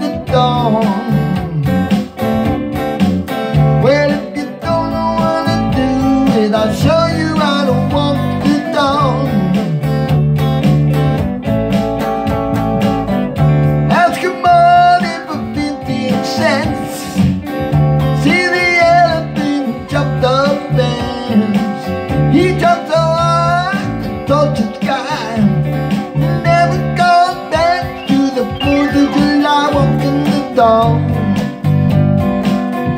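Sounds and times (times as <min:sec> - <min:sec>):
electric guitar: 0:00.0 - 0:32.9
man singing blues: 0:00.0 - 0:32.9.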